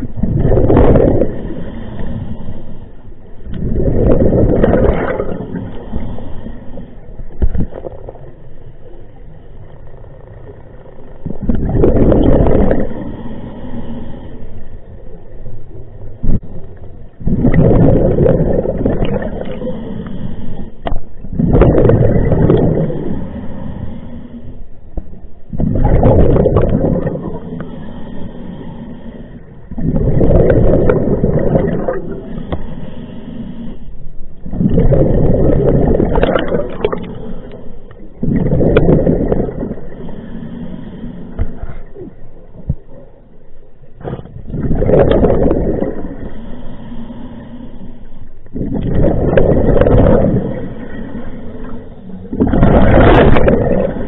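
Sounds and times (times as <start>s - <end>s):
exhaled bubbles underwater: 0.0s - 9.3s, 10.4s - 13.4s, 15.1s - 23.9s, 24.7s - 33.0s, 34.2s - 46.9s, 48.4s - 54.0s
underwater noise: 0.0s - 54.0s.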